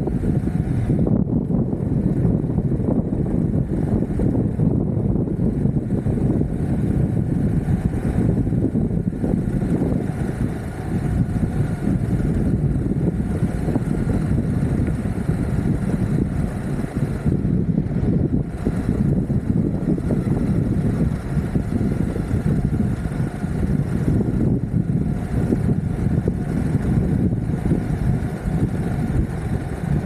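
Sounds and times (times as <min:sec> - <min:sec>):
skateboard wheels rolling on road: 0:00.0 - 0:30.0
wind buffeting microphone: 0:00.0 - 0:30.0.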